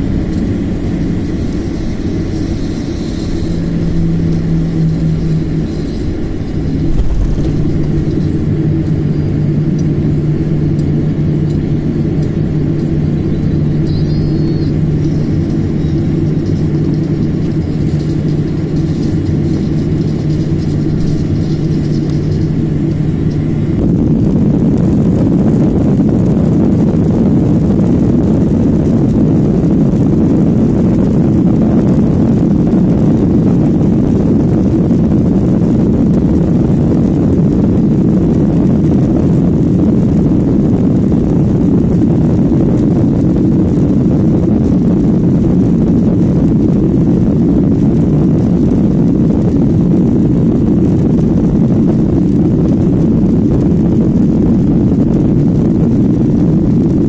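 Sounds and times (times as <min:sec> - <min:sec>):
jet engine and wheels roaring: 0:00.0 - 0:57.0.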